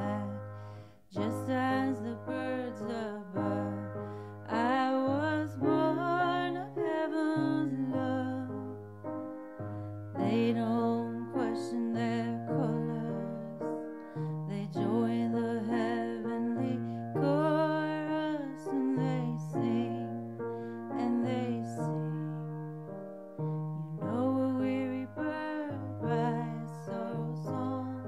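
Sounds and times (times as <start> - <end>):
woman singing slow song: 0.0 - 8.8, 10.2 - 22.8, 23.6 - 28.0
piano accompaniment: 0.0 - 28.0.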